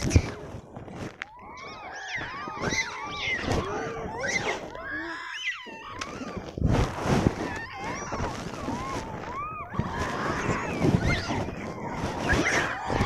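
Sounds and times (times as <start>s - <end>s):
monkeys squealing: 1.3s - 6.5s, 7.4s - 13.0s.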